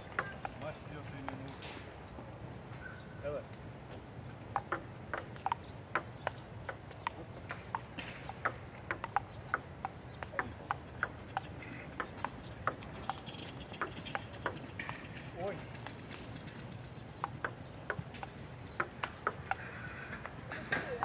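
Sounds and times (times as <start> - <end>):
table tennis balls clicking: 0.0 - 1.7, 4.5 - 21.0.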